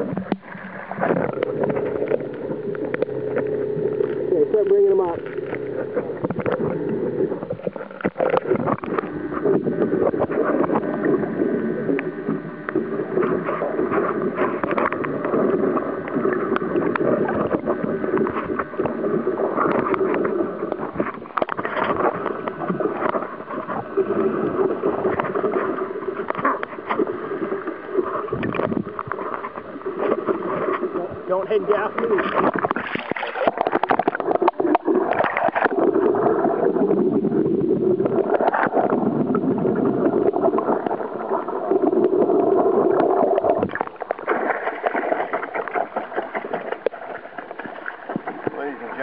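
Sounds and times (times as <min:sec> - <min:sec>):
boat engine drone: 0:00.0 - 0:49.0
water sounds: 0:00.0 - 0:49.0.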